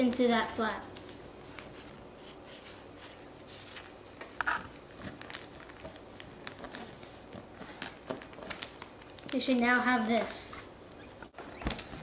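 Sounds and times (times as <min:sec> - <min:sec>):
paper rustling and crinkling: 0:00.4 - 0:12.0.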